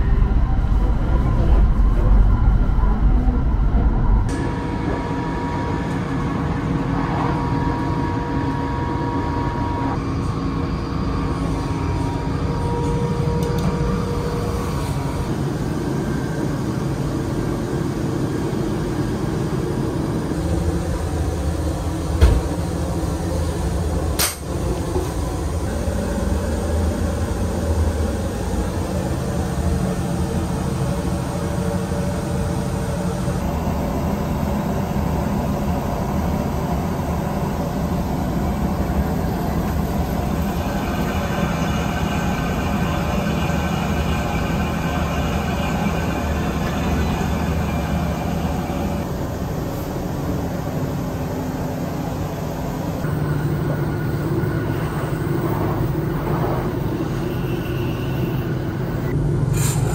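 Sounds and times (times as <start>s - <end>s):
train rumble and hiss: 0.0s - 59.9s.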